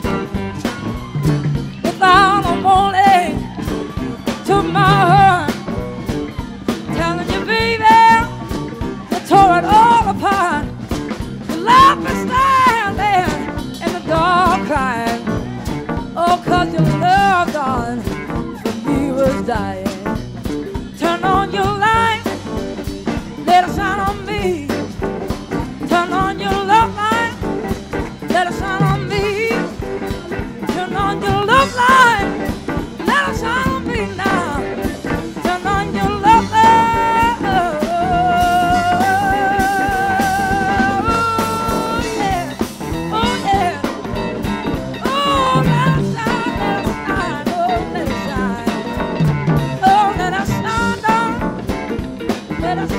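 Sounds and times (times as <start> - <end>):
bass guitar: 0.0 - 52.9
drums: 0.0 - 52.9.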